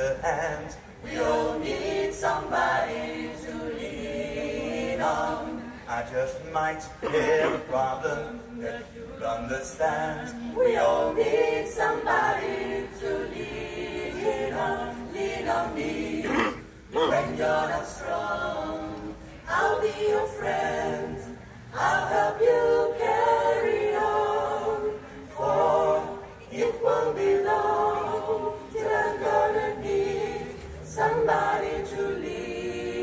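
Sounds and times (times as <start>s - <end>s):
mixed choir singing a cappella: 0.0s - 33.0s.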